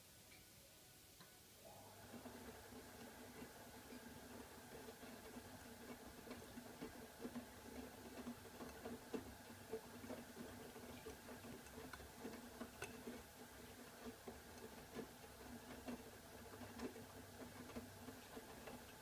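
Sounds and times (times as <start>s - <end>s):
washing machine humming: 1.6s - 19.0s.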